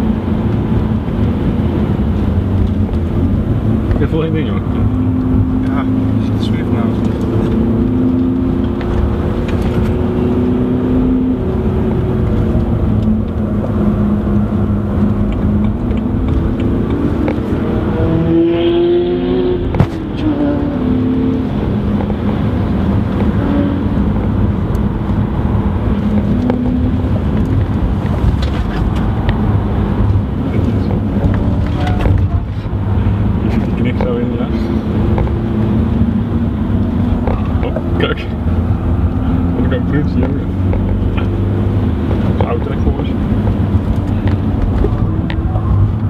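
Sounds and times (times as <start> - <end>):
car engine revving: 0.0 - 46.0
road noise: 0.0 - 46.0.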